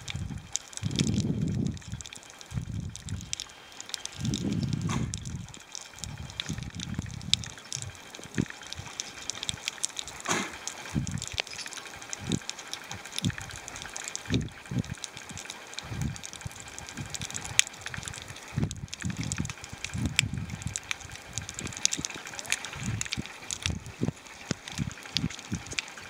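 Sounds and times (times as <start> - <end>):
muffled underwater rushing: 0.0 - 26.0
sharp clicks and crackles: 0.0 - 26.0.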